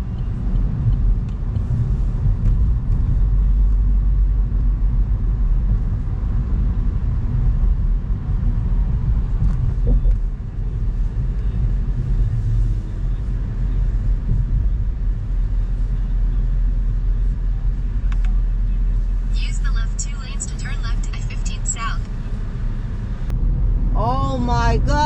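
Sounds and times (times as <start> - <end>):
car road rumble from inside: 0.0 - 25.0.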